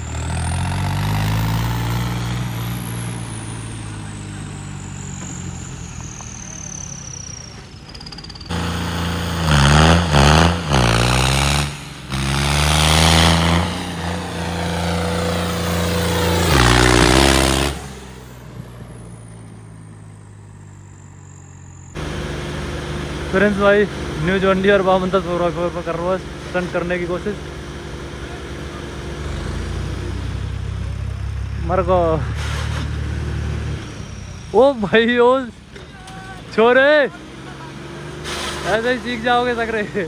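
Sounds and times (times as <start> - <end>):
tractor diesel engine revving: 0.0 - 40.0.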